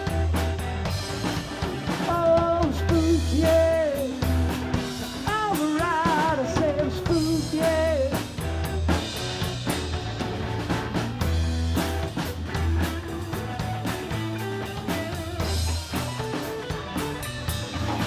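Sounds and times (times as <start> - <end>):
drum kit beat: 0.0 - 18.0.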